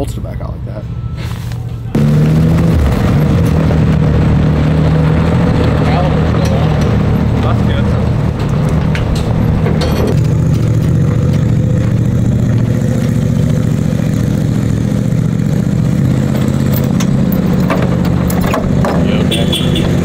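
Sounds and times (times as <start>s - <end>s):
engine running steadily: 1.8s - 20.0s.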